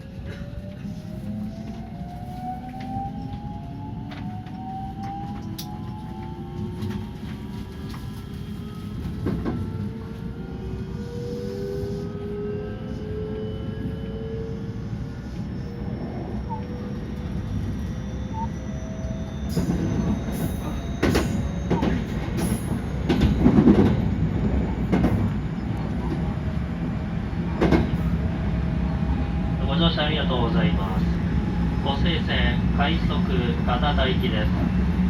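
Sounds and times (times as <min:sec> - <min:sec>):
train running noise: 0:00.0 - 0:35.0.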